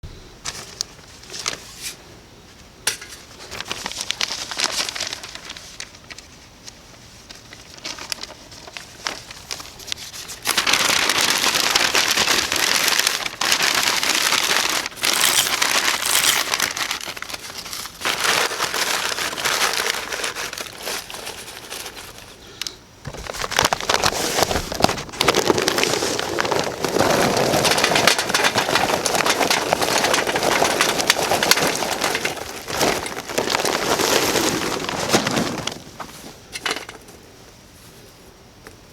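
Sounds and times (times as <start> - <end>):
crackling crinkling clicks: 3.5 - 37.0.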